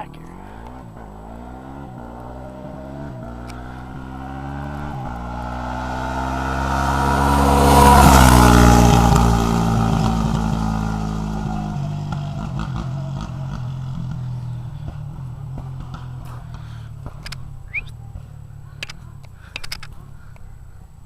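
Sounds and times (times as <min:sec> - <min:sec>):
quad engine passing by: 0:00.0 - 0:21.0.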